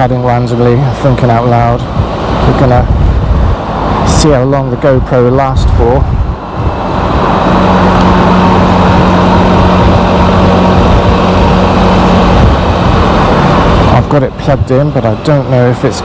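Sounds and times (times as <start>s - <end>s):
motorcycle engine drone: 0.0s - 16.0s
wind and road noise: 0.0s - 16.0s.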